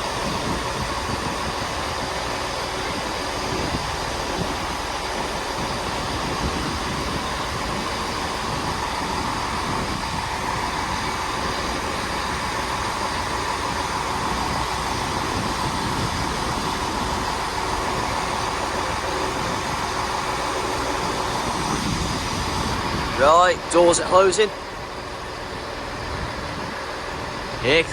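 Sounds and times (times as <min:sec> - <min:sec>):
diesel train running: 0:00.0 - 0:27.9.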